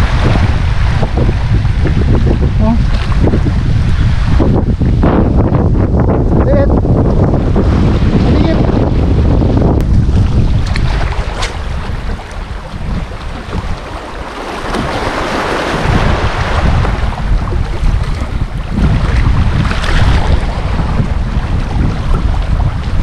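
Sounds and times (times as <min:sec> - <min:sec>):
waves washing against rocks: 0:00.0 - 0:23.0
wind buffeting microphone: 0:00.0 - 0:23.0.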